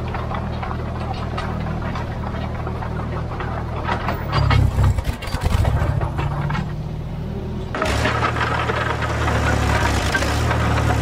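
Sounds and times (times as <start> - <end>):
dozer engine running under load: 0.0 - 11.0.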